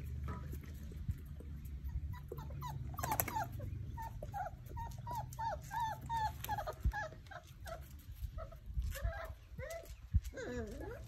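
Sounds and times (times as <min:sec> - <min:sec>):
puppies whimpering: 0:01.4 - 0:11.0.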